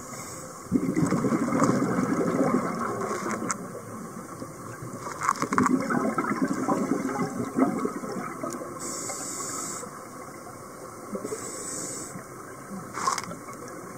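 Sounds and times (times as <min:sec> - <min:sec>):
sea water rushing and churning: 0:00.0 - 0:13.9.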